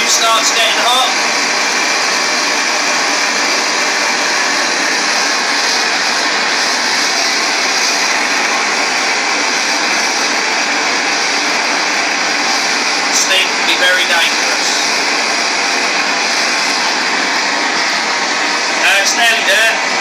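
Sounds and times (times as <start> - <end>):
gas torch flame rushing: 0.0 - 20.0.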